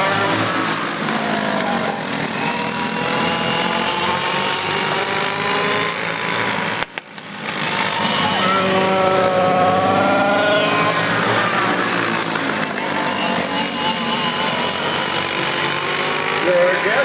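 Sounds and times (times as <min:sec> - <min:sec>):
racing kart engines: 0:00.0 - 0:17.0.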